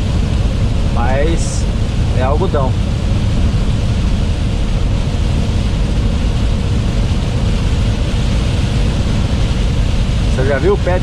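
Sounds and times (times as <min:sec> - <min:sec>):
rain and tyre spray hiss: 0:00.0 - 0:11.0
truck engine and road rumble: 0:00.0 - 0:11.0.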